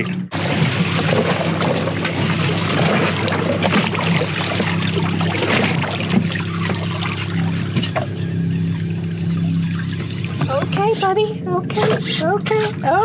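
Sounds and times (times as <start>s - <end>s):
steady low hum: 0.0s - 13.0s
water lapping against boat: 0.0s - 13.0s.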